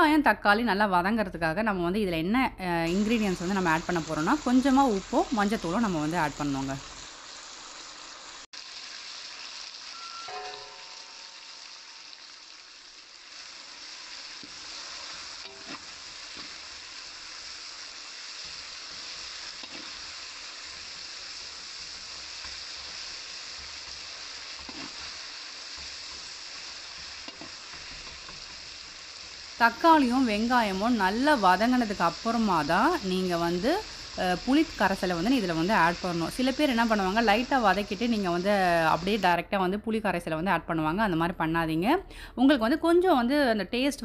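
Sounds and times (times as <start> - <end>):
vegetables sizzling in oil: 0.0 - 41.8.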